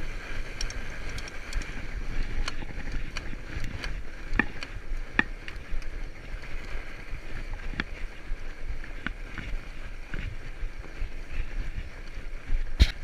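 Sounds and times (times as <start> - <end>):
bike clicks and knocks: 0.0 - 8.2, 8.8 - 11.0, 11.8 - 13.0
bike tyres rolling on snow: 0.0 - 13.0.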